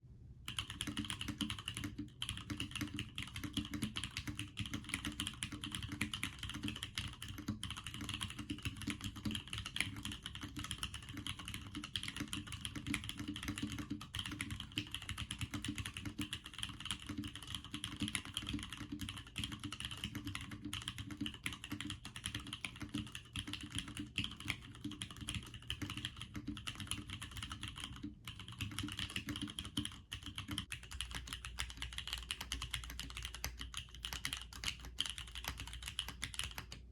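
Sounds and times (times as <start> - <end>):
typing on mechanical keyboard: 0.5 - 36.9.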